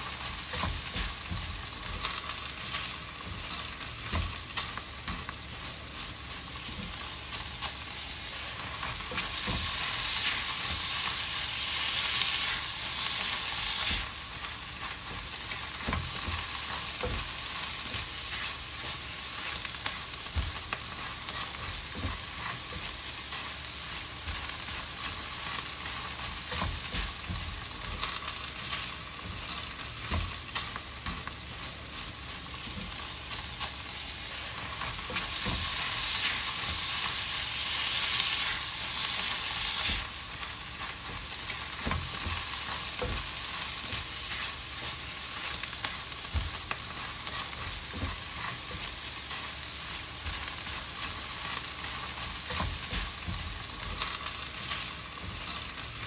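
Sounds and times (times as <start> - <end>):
food sizzling in hot oil: 0.0 - 56.0
oil crackles and pops: 6.6 - 56.0.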